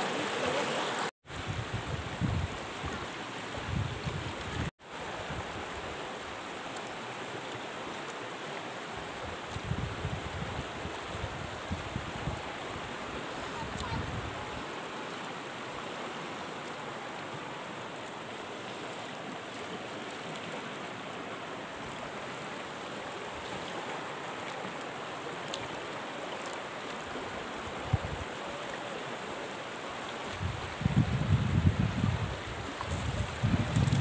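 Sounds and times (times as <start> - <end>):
river water rushing over rocks: 0.0 - 34.0.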